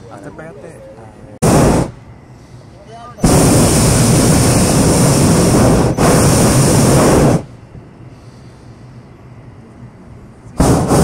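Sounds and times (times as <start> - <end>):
propane burner roaring: 1.4 - 11.0.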